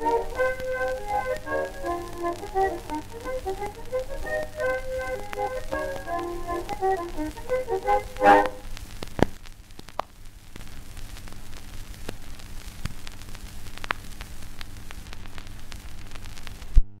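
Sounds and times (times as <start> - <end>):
record crackles and clicks: 0.0 - 17.0
record hiss and hum: 0.0 - 17.0.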